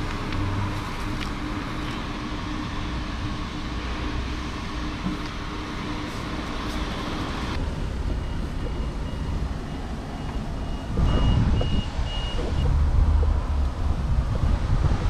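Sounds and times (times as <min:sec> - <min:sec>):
low rumbling: 0:00.0 - 0:15.0.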